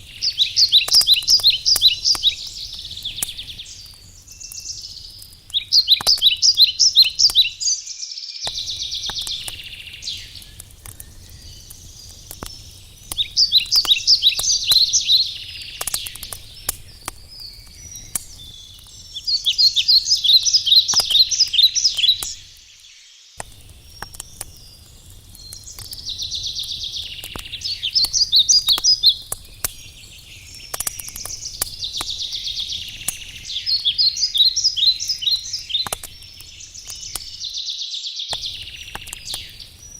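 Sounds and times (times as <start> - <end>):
songbird singing: 0.0 - 39.9
wood fire crackling: 0.0 - 39.9.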